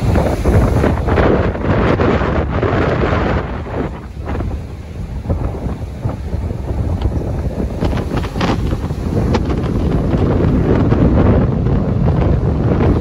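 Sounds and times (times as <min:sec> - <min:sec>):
ocean waves breaking: 0:00.0 - 0:13.0
wind buffeting microphone: 0:00.0 - 0:13.0.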